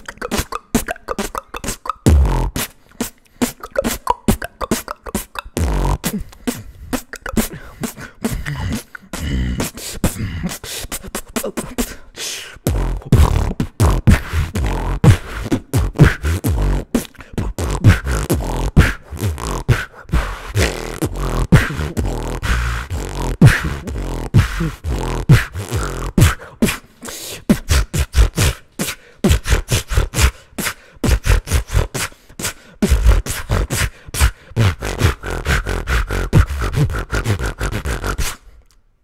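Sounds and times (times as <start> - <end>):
beatboxing kick drum thumps: 0.0 - 38.5
beatboxing snare and hi-hat clicks: 0.0 - 38.8.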